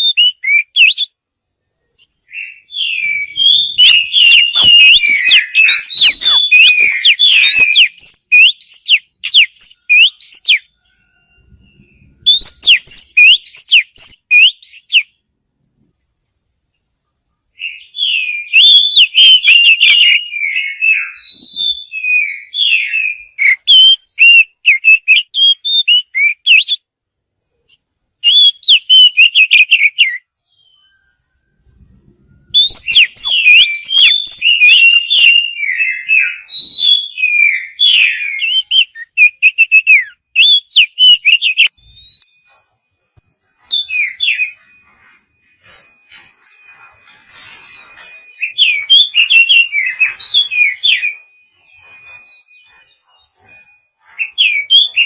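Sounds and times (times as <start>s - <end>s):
bird whistling song: 0.0s - 1.2s, 1.9s - 15.2s, 17.5s - 26.9s, 27.7s - 42.7s, 43.4s - 55.0s.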